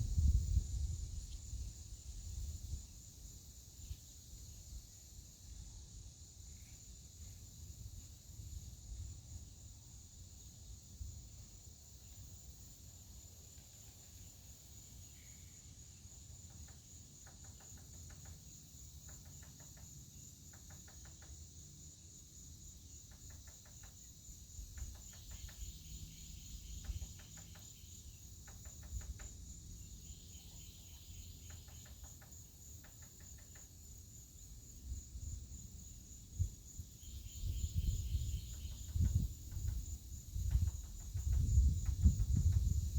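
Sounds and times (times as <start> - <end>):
high-pitched pulsing insect trill: 0.0 - 42.9.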